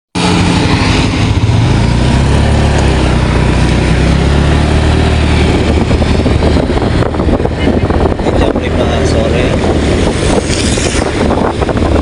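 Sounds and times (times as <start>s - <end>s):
vehicle engine running: 0.2s - 12.0s.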